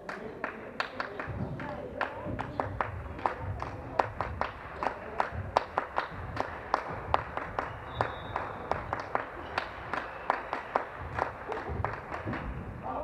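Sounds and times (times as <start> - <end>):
ball smacks and claps: 0.1 - 12.6.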